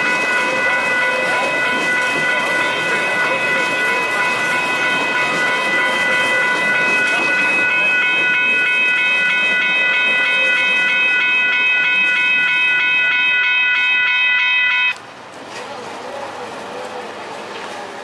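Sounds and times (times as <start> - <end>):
light rail train rolling past: 0.0 - 18.0.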